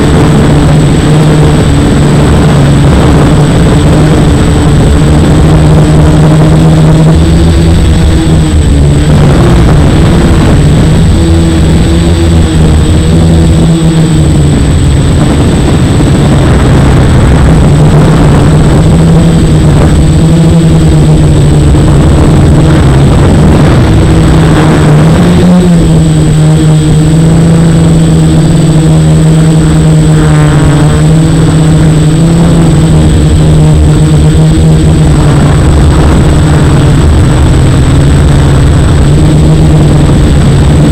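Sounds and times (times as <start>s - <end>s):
drone propellers buzzing: 0.0s - 40.9s
thin high whine: 0.0s - 40.9s.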